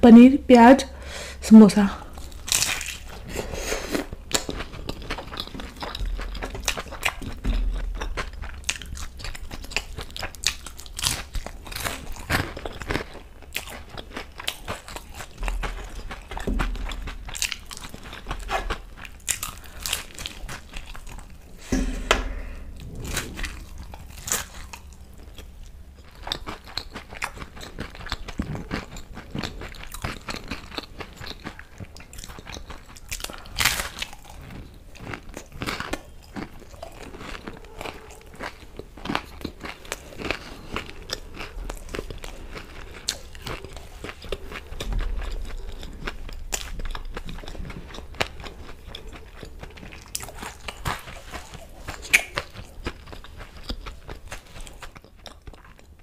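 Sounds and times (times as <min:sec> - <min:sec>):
chewing crunchy pastry: 0:02.0 - 0:21.6, 0:22.2 - 0:56.0.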